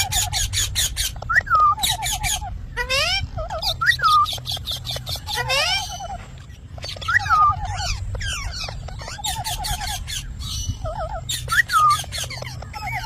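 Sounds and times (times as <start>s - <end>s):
parrot whistling: 0.0s - 6.2s, 6.8s - 13.0s
parrot chatter: 0.0s - 13.0s
parrot trills: 0.0s - 13.0s.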